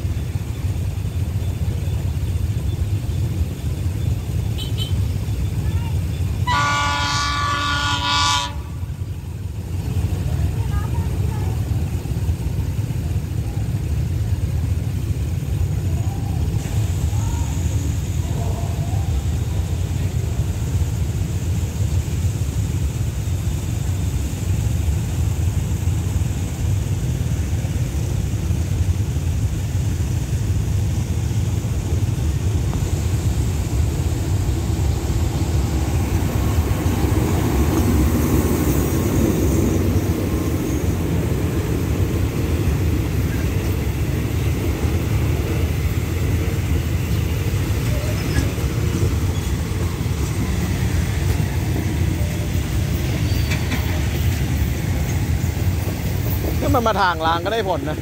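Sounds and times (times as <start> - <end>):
locomotive engine rumbling: 0.0 - 58.0
train wheels on rail: 0.0 - 58.0.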